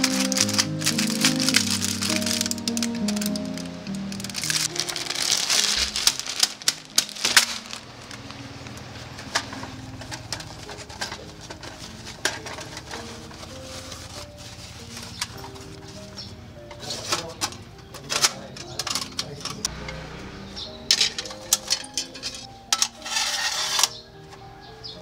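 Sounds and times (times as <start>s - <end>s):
aluminium foil crinkling: 0.0s - 19.7s, 20.9s - 24.0s.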